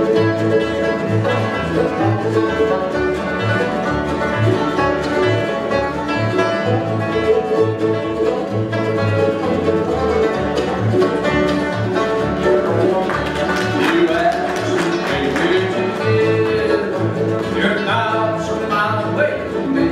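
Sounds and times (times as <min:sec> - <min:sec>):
bluegrass band playing: 0:00.0 - 0:19.9
upright bass plucking: 0:00.0 - 0:19.9.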